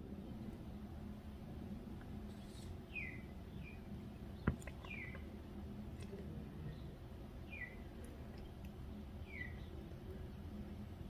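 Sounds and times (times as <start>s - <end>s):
low background rumble: 0.0s - 11.0s
songbird chirping: 0.0s - 11.0s.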